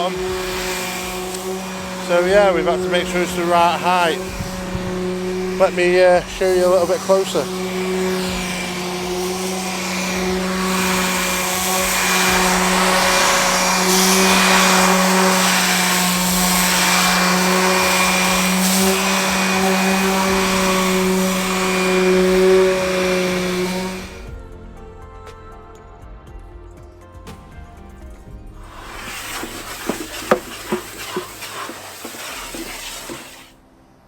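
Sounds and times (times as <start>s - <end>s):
small motor humming: 0.0s - 24.4s, 28.7s - 33.5s
quiet music: 0.0s - 34.0s.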